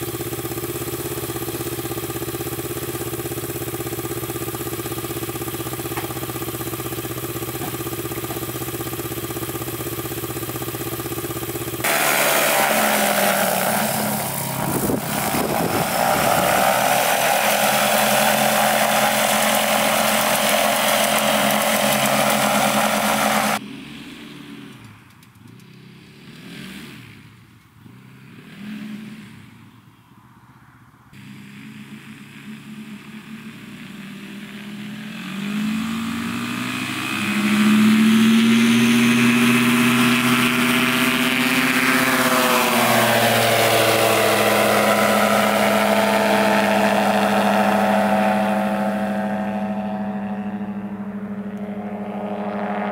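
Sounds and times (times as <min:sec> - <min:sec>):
ultralight airplane engine: 0:00.0 - 0:52.9.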